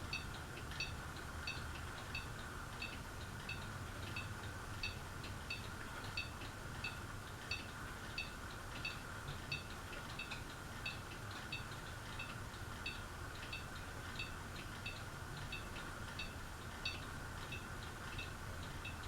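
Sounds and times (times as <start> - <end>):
ceiling fan humming: 0.0 - 19.0.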